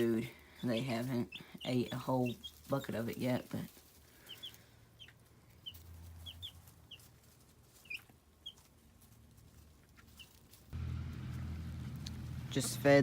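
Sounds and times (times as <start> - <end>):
chicks peeping: 0.0 - 10.8.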